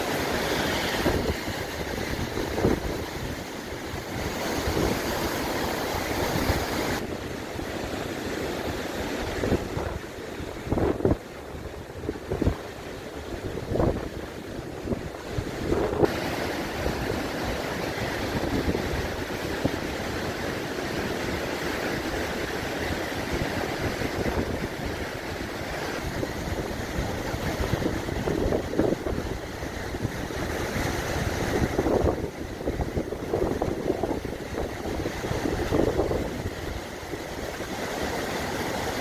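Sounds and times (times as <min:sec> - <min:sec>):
sea surf washing on shore: 0:00.0 - 0:39.0
wind buffeting microphone: 0:00.0 - 0:39.0.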